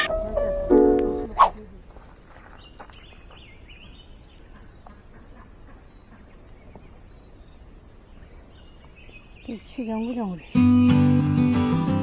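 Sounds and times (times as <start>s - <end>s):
insects droning: 0.4s - 10.6s.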